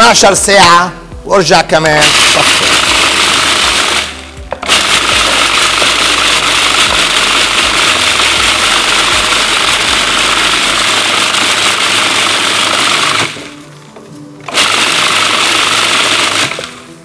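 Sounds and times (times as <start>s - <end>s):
food processor whirring: 2.0s - 13.5s, 14.5s - 16.8s.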